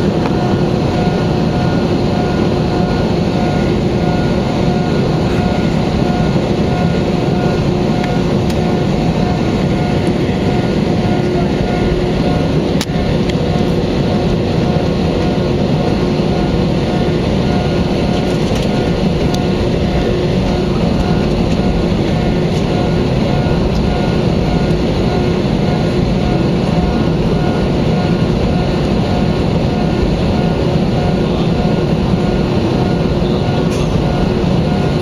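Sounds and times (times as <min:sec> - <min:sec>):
jet engine cabin rushing noise: 0:00.0 - 0:35.0
steady tonal hum: 0:00.0 - 0:35.0.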